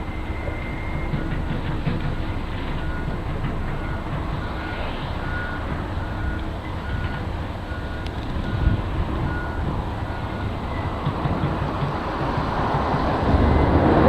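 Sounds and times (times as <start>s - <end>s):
travel alarm beeping: 0.0s - 11.9s, 13.3s - 13.8s
diesel engine running: 0.0s - 14.0s
track noise rumble: 0.0s - 14.0s.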